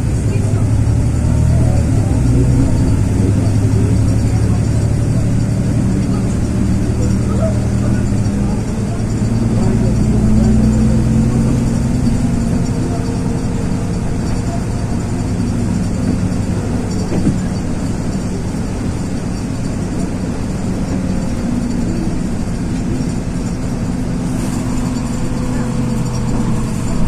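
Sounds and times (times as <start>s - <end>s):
bus diesel engine running: 0.0s - 27.0s
road and tyre noise: 0.0s - 27.0s.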